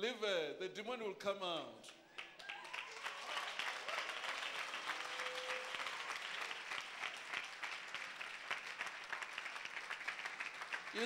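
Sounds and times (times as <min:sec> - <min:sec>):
crowd applauding: 0:02.1 - 0:11.0.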